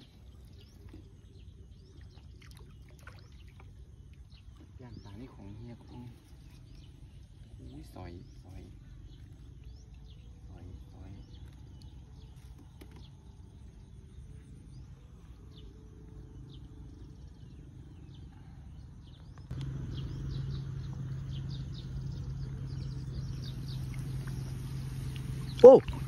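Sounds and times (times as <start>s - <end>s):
outdoor riverside background noise: 0.0s - 26.0s
small birds chirping: 0.0s - 26.0s
steady low hum: 0.0s - 26.0s.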